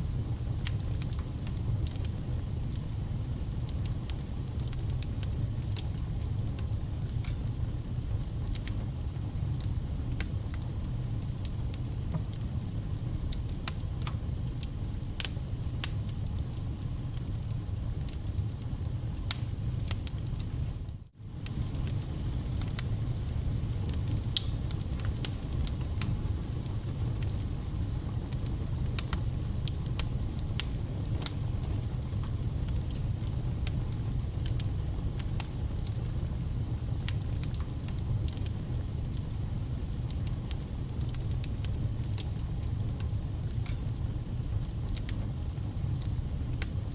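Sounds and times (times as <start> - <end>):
campfire crackling: 0.4 - 46.9.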